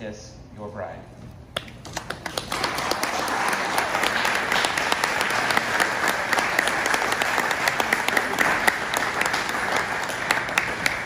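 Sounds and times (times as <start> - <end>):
crowd applauding: 1.8 - 11.0.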